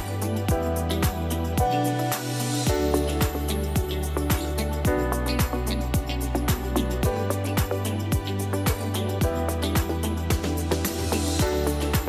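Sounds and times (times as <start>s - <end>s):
low kick drum: 0.0s - 1.8s, 2.7s - 12.0s
background music with steady beat: 0.0s - 12.0s.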